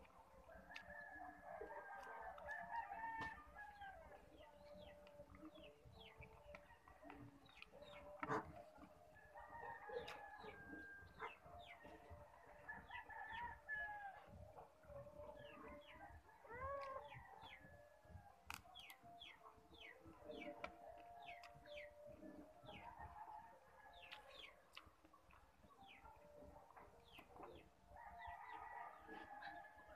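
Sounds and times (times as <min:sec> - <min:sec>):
chickens cheeping faintly: 0:00.0 - 0:29.9.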